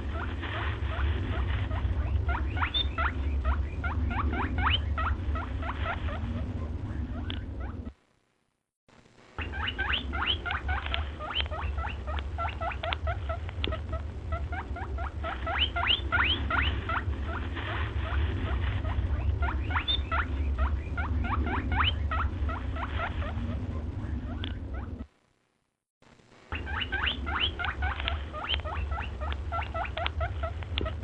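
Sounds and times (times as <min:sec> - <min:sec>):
low rumble: 0:00.0 - 0:08.4, 0:09.0 - 0:25.4, 0:26.3 - 0:31.0
small birds chirping: 0:00.1 - 0:07.9, 0:09.4 - 0:25.0, 0:26.5 - 0:31.0.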